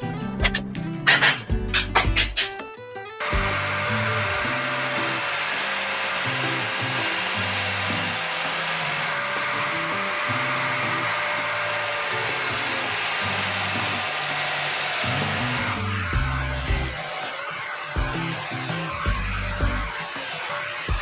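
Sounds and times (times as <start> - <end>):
biscuit jointer motor whine: 3.2 - 21.0.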